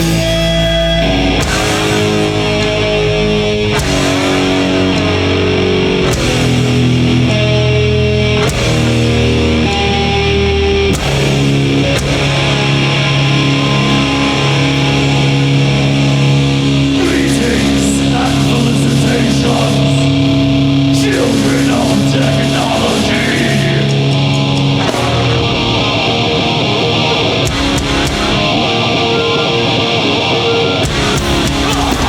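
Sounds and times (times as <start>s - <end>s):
heavy metal band playing: 0.0s - 32.0s.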